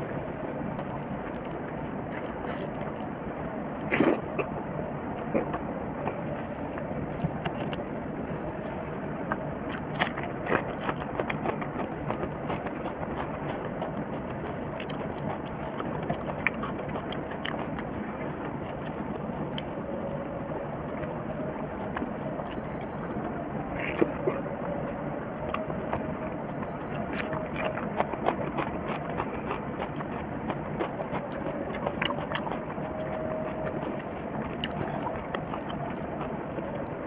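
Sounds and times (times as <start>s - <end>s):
chewing: 0.7s - 3.1s, 3.8s - 4.5s, 9.7s - 37.0s.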